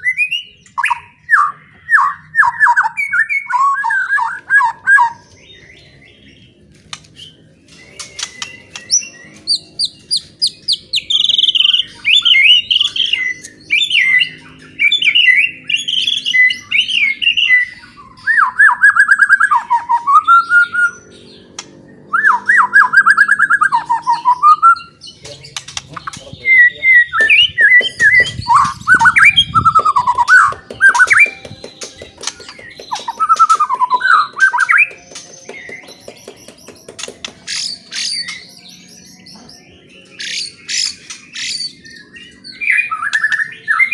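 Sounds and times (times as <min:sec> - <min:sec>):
bird singing loudly: 0:07.2 - 0:43.9.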